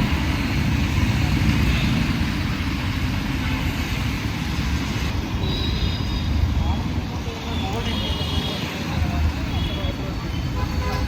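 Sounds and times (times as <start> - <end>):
vehicle engines: 0.0 - 11.0.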